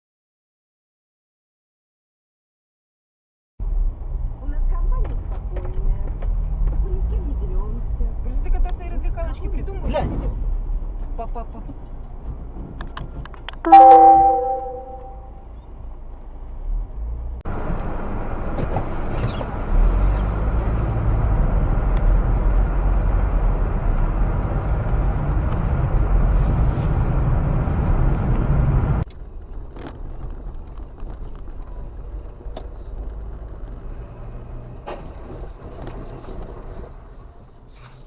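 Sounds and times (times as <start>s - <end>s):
car engine and road noise: 3.6s - 38.0s.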